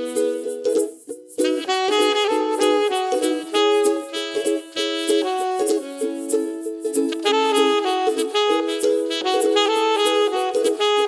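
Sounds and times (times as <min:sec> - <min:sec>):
alto saxophone melody: 0:00.0 - 0:00.7, 0:01.4 - 0:11.0
strummed ukulele: 0:00.0 - 0:11.0.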